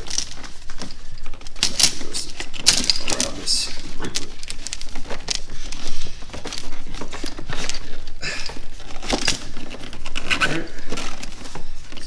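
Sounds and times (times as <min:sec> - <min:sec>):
rubber tube scraping engine parts: 0:00.0 - 0:12.0.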